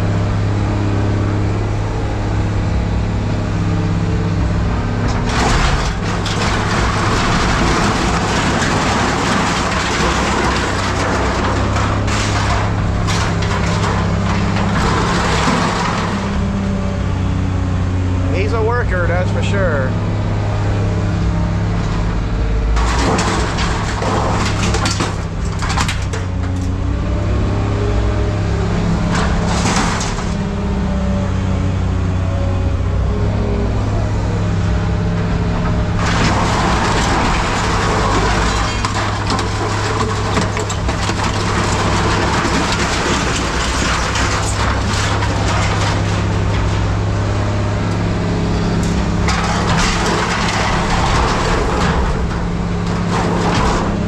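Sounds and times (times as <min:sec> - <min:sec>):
diesel machinery running: 0:00.0 - 0:54.0
scrap metal grinding and clattering: 0:04.0 - 0:54.0.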